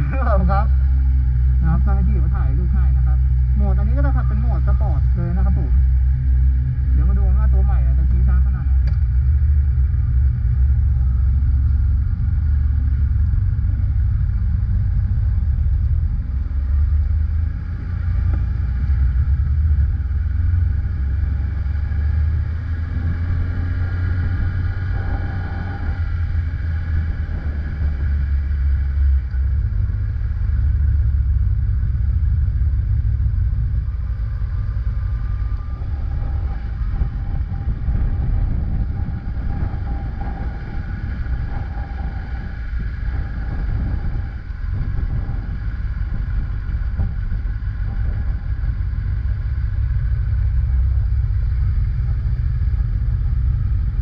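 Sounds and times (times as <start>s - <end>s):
wind rumble on microphone: 0.0s - 54.0s
motorcycle engine revving: 8.0s - 54.0s.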